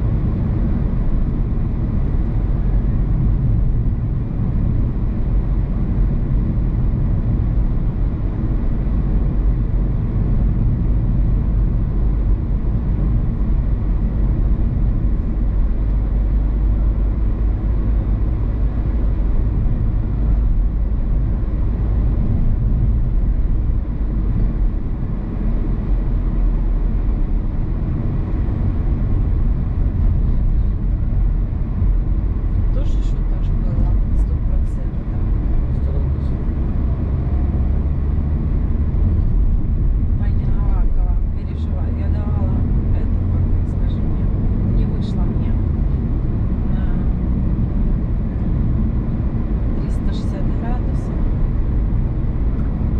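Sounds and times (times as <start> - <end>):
car driving on road: 0.0 - 52.9.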